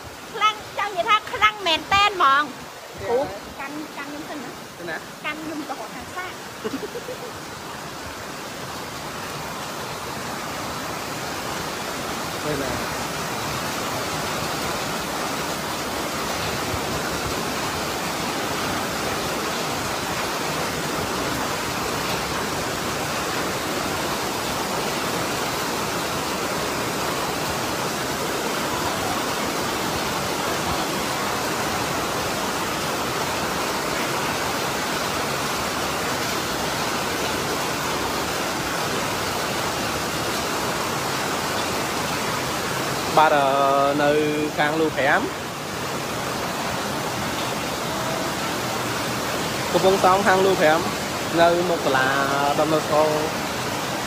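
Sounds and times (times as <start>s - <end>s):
floodwater rushing: 0.0s - 54.0s.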